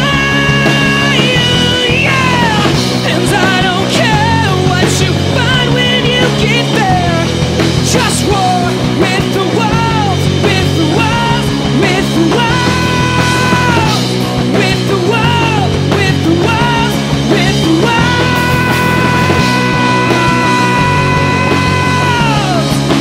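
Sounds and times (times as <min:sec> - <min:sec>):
bass guitar: 0:00.0 - 0:23.0
drums: 0:00.0 - 0:23.0
electric guitars: 0:00.0 - 0:23.0
man singing: 0:00.0 - 0:23.0.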